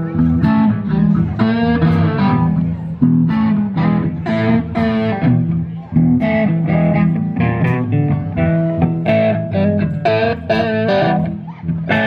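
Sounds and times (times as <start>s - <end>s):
bass guitar: 0.0s - 12.0s
electric blues guitar riff: 0.0s - 12.0s.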